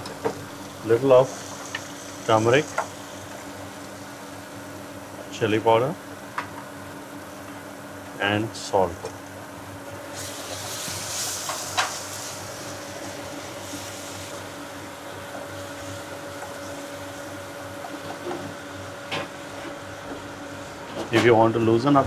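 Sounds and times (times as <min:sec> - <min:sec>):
kitchen equipment hum: 0:00.0 - 0:22.0.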